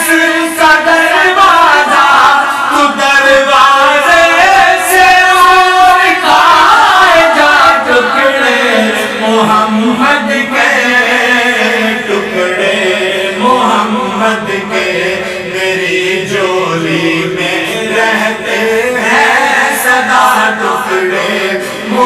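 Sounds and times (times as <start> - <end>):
men singing together: 0.0 - 22.0.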